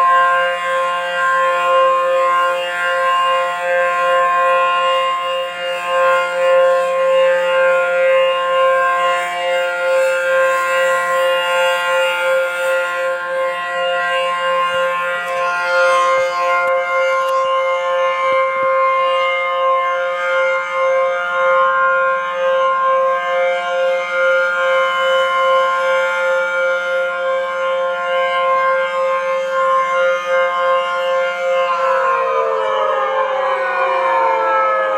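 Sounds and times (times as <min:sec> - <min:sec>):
electronic warning siren: 0:00.0 - 0:34.9.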